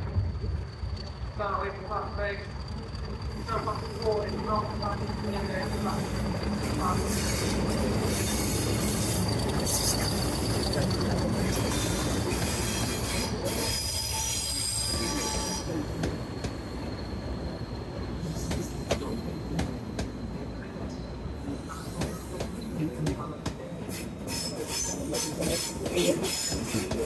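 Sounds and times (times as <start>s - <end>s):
low train rumble: 0.0s - 27.0s
train wheel squeal: 0.0s - 27.0s.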